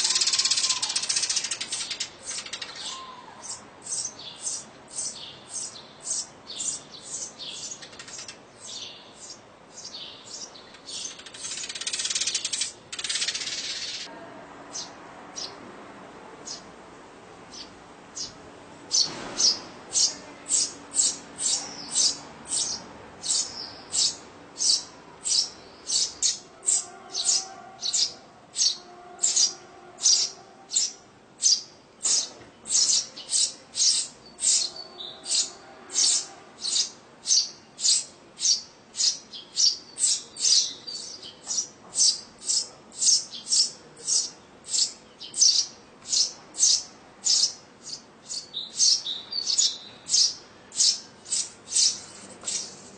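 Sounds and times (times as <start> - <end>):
sparrows chirping: 0.0 - 14.1, 14.7 - 15.6, 16.4 - 16.8, 17.4 - 52.9.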